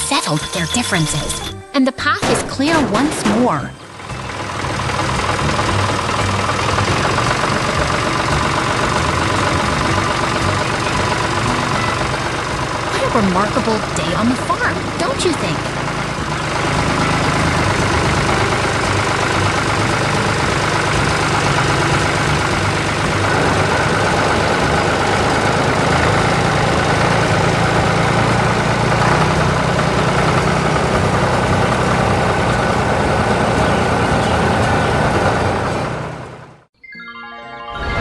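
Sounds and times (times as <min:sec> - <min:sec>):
heavy vehicle engine running: 0:00.0 - 0:36.7.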